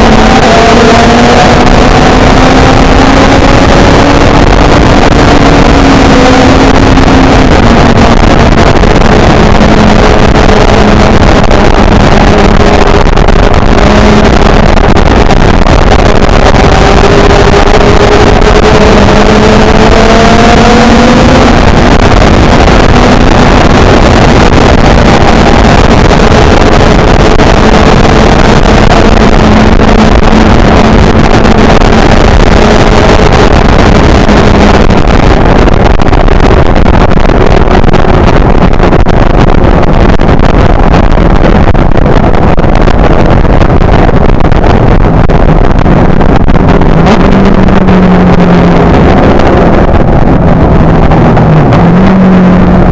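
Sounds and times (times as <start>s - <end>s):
motorcycle engine at speed: 0.0s - 52.9s
wind rush on microphone: 0.0s - 52.9s.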